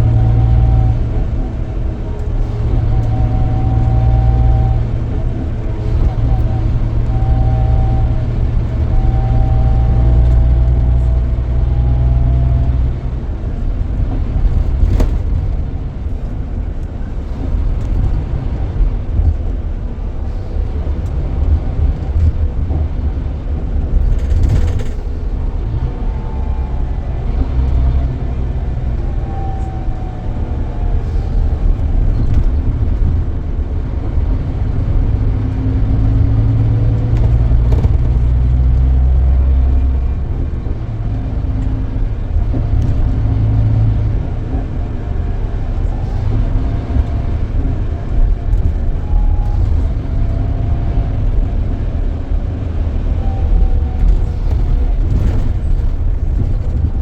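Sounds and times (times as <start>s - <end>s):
coach engine while driving: 0.0s - 57.0s.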